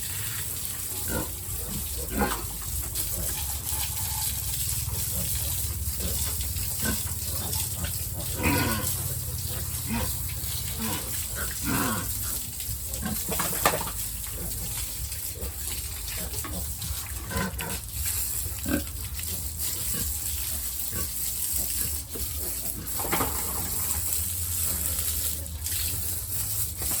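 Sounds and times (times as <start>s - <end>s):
pigs grunting and squealing: 0.2s - 26.9s.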